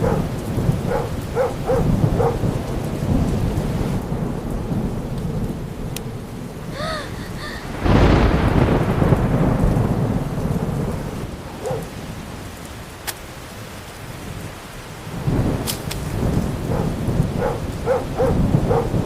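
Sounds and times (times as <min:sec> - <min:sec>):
thunder clap and rumble: 0:00.0 - 0:13.0, 0:13.6 - 0:19.0
steady rain: 0:00.0 - 0:19.0.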